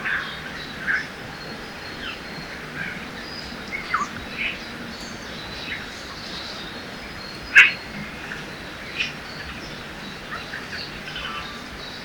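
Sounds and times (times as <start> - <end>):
rushing river water: 0.0 - 12.0
songbirds chirping: 0.0 - 12.0.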